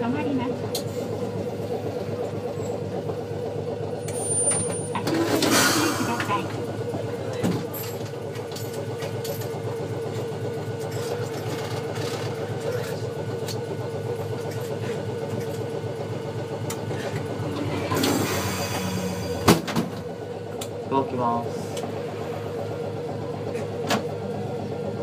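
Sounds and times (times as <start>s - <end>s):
tram humming: 0.0s - 9.4s, 14.1s - 25.0s.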